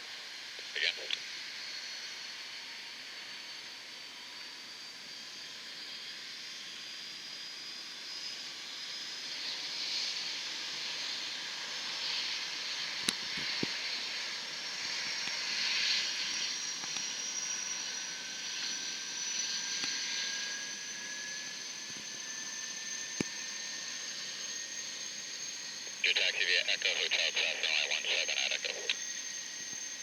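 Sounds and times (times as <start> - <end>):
jet engines whining: 0.2 - 30.0.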